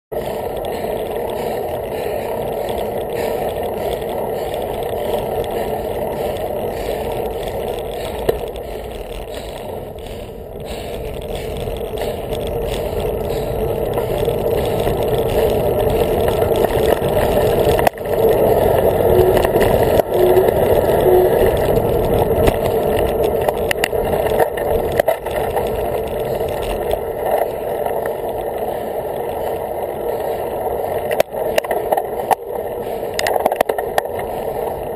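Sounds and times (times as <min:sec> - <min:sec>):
bicycle rattles and knocks: 0:00.1 - 0:34.9
bicycle tyre noise: 0:00.1 - 0:34.9
muffled wind rush: 0:00.1 - 0:34.9.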